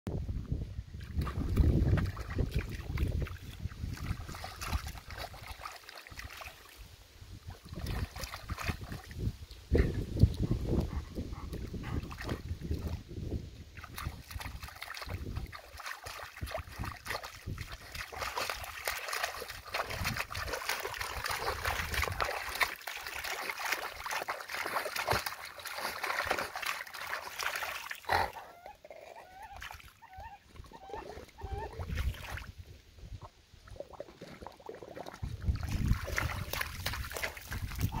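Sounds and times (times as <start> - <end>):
dog splashing in a puddle: 1.0 - 10.9, 11.5 - 28.4, 29.4 - 32.5, 33.7 - 38.0
dog wading through water: 1.0 - 32.6, 33.6 - 38.0.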